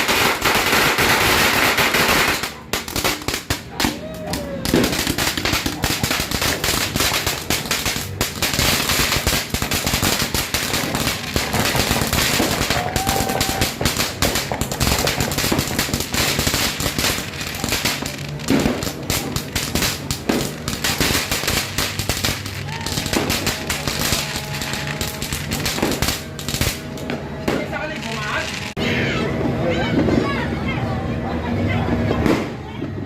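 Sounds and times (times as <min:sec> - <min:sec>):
firecrackers crackling: 0:00.0 - 0:30.4, 0:31.9 - 0:33.0.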